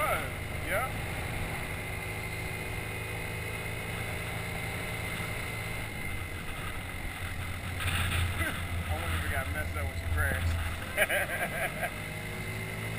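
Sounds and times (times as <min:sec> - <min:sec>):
road and wind noise: 0:00.0 - 0:12.9
scooter engine droning: 0:00.0 - 0:12.9.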